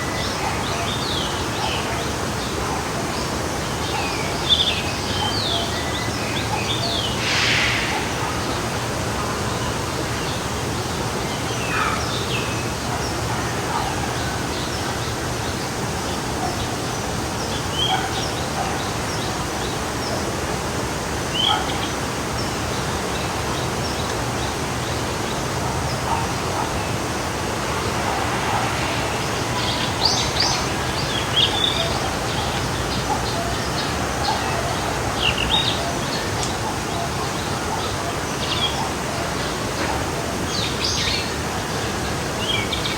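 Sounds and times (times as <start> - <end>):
forest stream flowing: 0.0 - 42.9.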